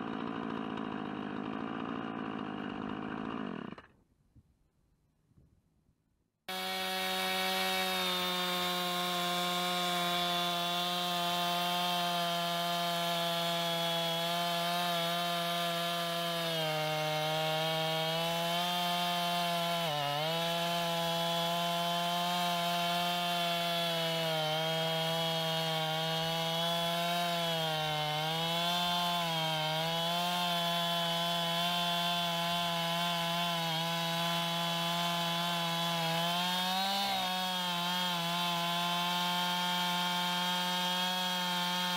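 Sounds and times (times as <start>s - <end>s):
chainsaw cutting log: 0.0s - 4.0s, 6.5s - 41.9s.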